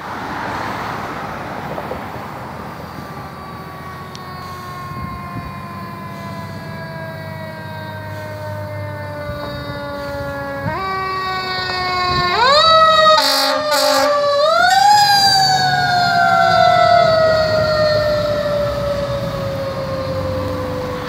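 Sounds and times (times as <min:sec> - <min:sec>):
fire engine mechanical siren: 0:00.0 - 0:21.0.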